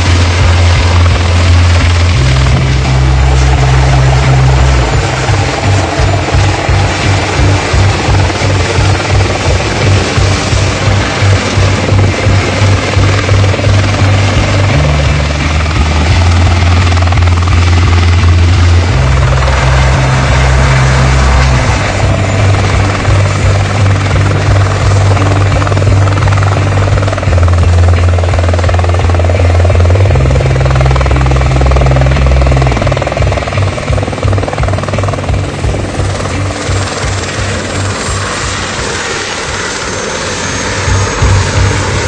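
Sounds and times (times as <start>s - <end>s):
background music with bass line: 0.0s - 38.5s, 40.7s - 42.0s
helicopter turbine and rotor: 0.0s - 42.0s.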